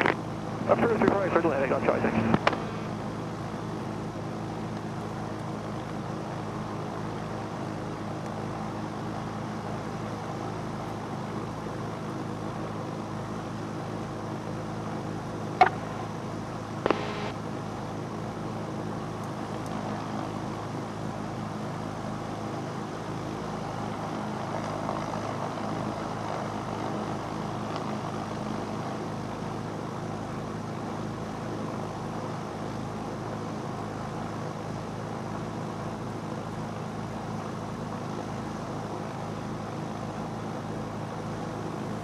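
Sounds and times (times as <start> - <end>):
piston aircraft engines running: 0.0 - 42.0.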